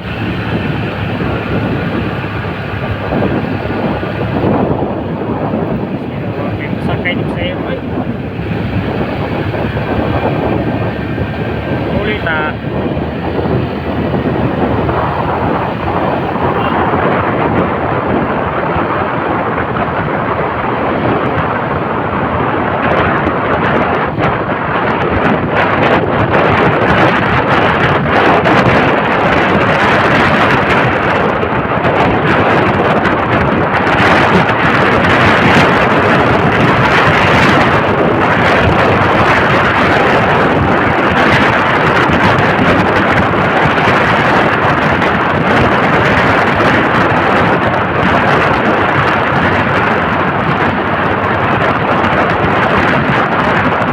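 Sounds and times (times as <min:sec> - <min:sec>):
motorcycle running at speed: 0:00.0 - 0:53.9
road noise: 0:00.0 - 0:53.9
wind on microphone: 0:00.0 - 0:53.9.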